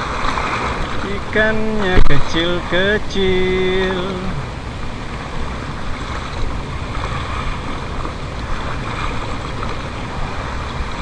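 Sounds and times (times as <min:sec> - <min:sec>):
waves washing against seawall: 0:00.0 - 0:11.0
wind buffeting microphone: 0:00.0 - 0:11.0.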